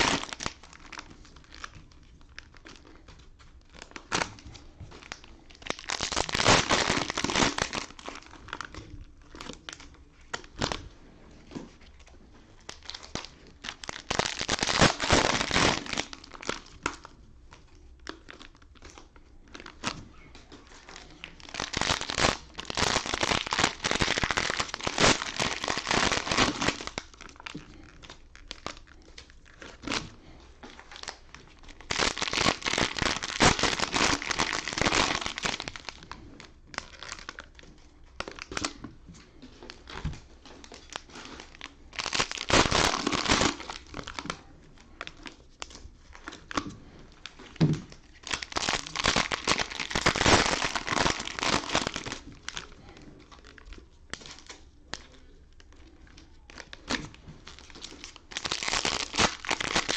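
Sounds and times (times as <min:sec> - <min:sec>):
cellophane wrappers tearing and crinkling: 0:00.0 - 0:10.8, 0:12.0 - 0:38.8, 0:39.9 - 0:59.9.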